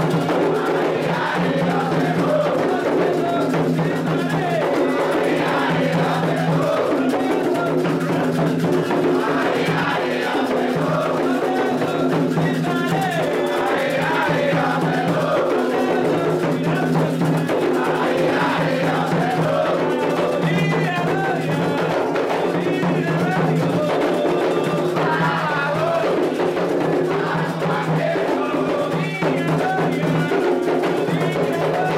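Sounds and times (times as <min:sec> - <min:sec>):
group of voices chanting: 0:00.0 - 0:31.9
hand drums playing rhythm: 0:00.0 - 0:31.9.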